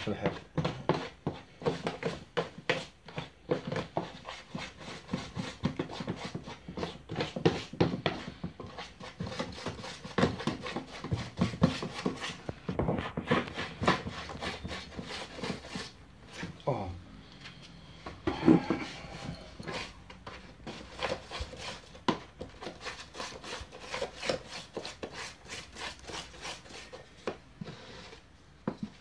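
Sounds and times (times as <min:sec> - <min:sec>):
spatula scraping paste in a tub: 0:00.0 - 0:16.6, 0:18.1 - 0:29.0.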